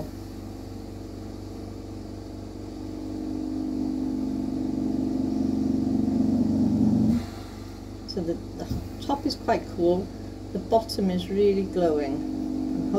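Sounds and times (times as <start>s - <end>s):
pulsing motor hum: 0.0s - 12.9s.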